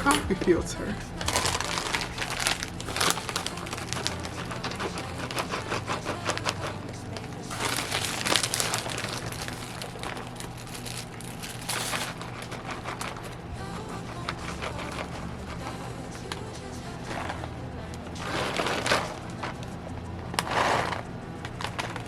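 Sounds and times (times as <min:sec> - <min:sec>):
packaging and paper crinkling: 0:01.2 - 0:16.5, 0:17.1 - 0:22.0.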